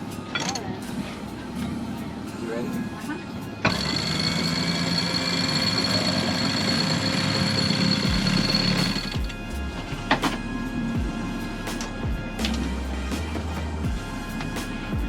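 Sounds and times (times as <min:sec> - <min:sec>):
background music with sustained tones: 0:00.0 - 0:15.0.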